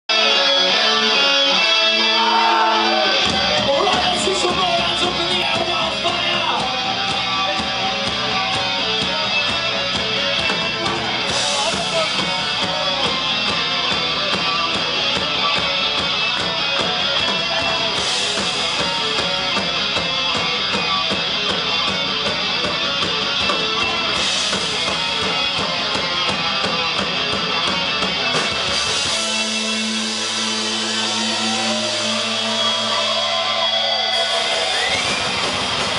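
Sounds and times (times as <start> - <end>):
heavy metal band playing live: 0.1 - 35.9.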